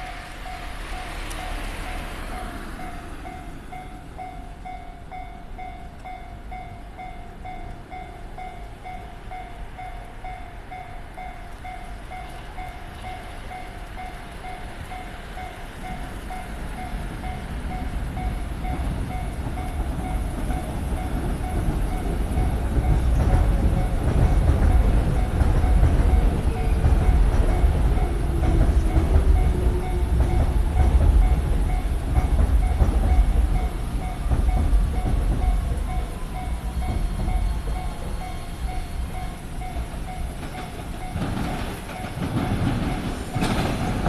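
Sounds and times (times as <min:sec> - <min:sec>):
level crossing warning bell: 0:00.0 - 0:44.0
train rumble: 0:00.0 - 0:44.0.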